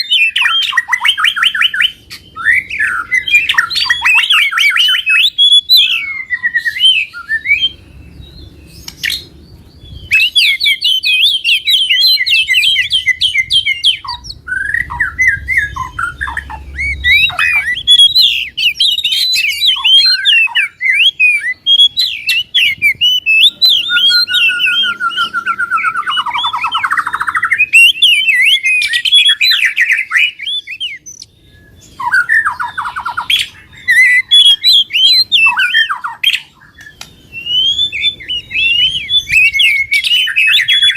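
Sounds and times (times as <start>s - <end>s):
downward rattling bird trill: 0.0s - 40.9s
songbirds chirping and trilling: 0.0s - 40.9s.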